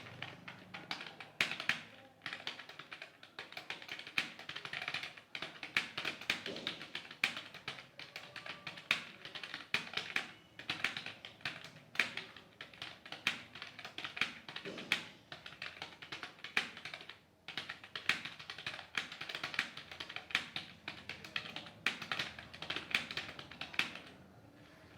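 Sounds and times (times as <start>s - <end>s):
typing on phone keyboard: 0.0s - 24.2s.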